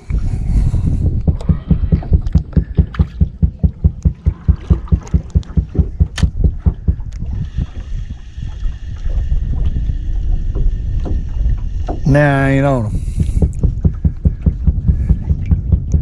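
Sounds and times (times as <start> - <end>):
water slapping boat hull: 0.0 - 16.0.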